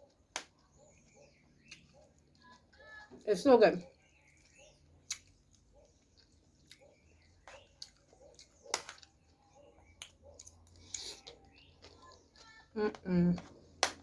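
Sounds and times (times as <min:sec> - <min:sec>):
person chewing food: 0:00.0 - 0:03.2, 0:03.8 - 0:14.0.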